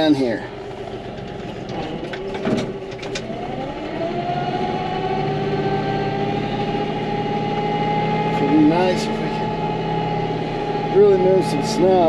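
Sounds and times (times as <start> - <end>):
tractor engine under load: 0.0 - 12.0.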